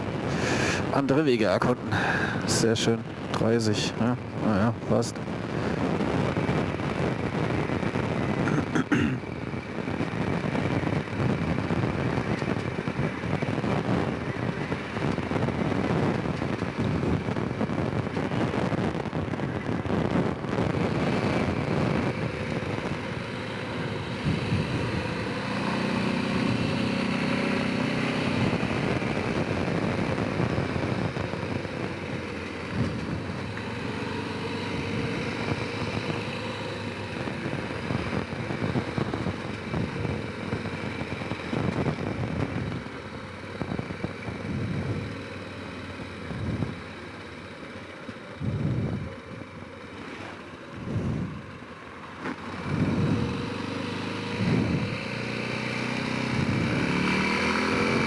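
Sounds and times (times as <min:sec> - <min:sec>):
atv engine revving: 0:05.4 - 0:47.3, 0:49.8 - 0:58.0.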